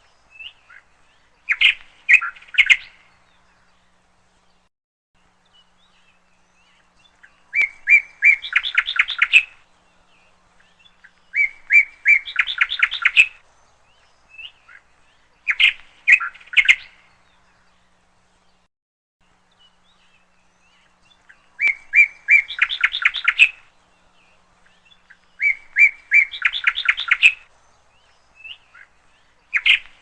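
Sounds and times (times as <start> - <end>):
bird chirping: 0.0 - 30.0.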